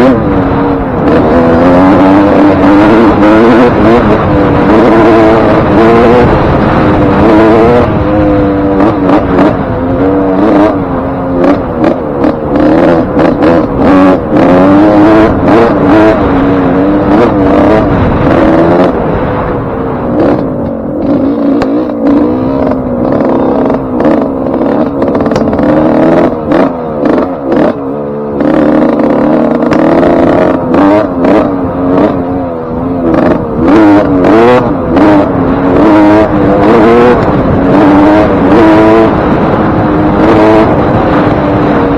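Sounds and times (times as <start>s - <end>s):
two-stroke engine revving: 0.0s - 41.9s.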